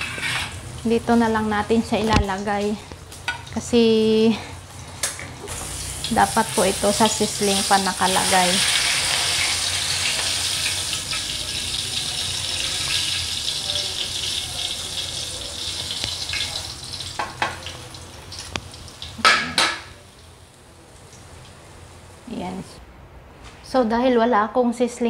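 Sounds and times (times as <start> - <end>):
hot oil sizzling in a wok: 0.0 - 22.1.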